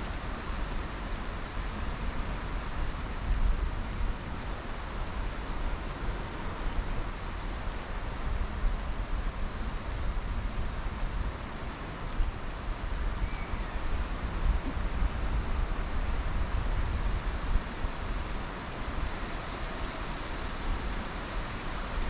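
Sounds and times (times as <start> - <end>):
surf hiss: 0.0 - 22.0
wind buffeting microphone: 0.0 - 22.0.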